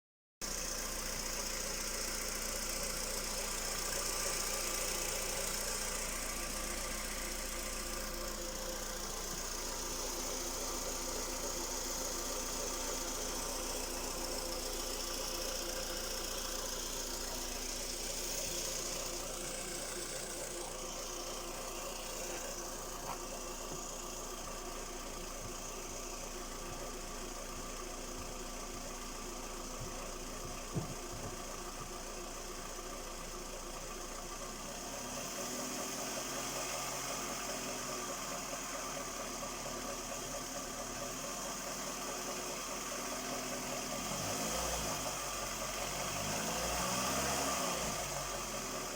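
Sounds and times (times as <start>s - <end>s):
car engine running: 0.4s - 48.9s
engine knocking: 0.4s - 48.9s.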